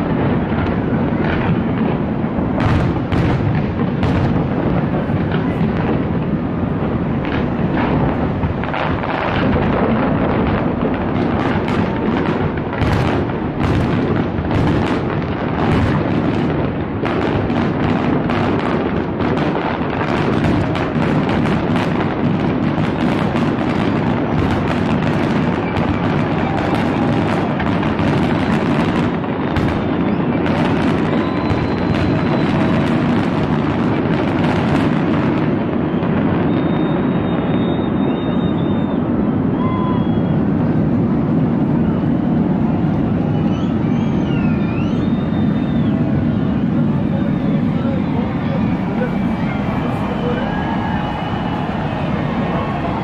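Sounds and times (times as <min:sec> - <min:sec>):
fireworks booming: 0:00.0 - 0:53.0
sharp firework bangs: 0:00.0 - 0:53.0.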